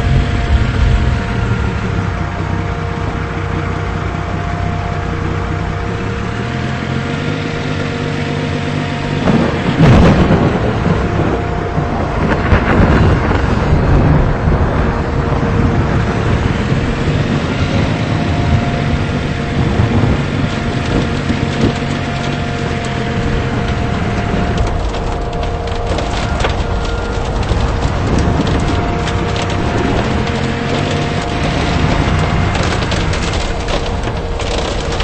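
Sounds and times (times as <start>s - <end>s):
low engine hum: 0.0s - 35.0s
steady rain: 0.0s - 35.0s
thunder rumbling: 0.0s - 35.0s.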